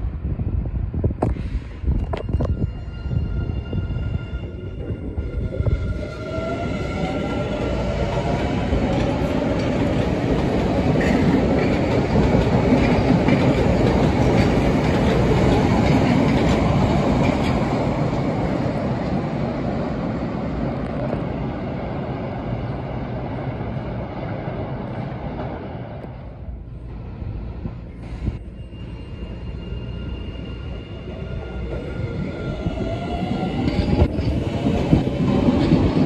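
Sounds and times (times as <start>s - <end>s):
train running past: 1.3s - 36.0s.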